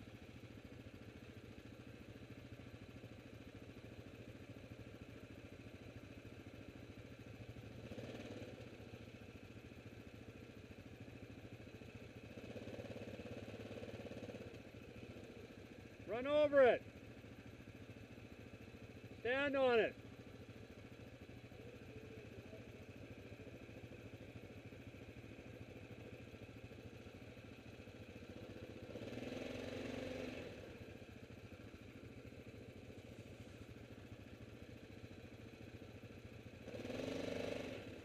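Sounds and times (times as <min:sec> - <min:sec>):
quad engine idling: 0:00.0 - 0:38.0.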